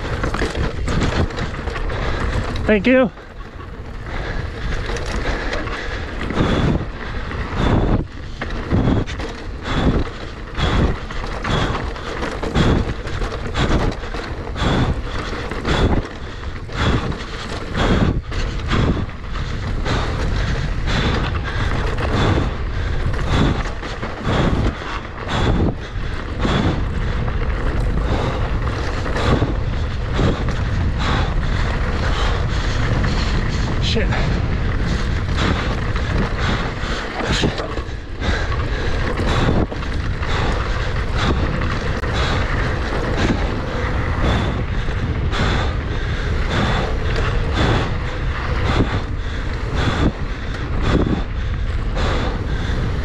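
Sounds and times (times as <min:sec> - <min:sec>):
knocks and rattles from rough ground: 0:00.0 - 0:53.0
wind buffeting microphone: 0:00.0 - 0:53.0.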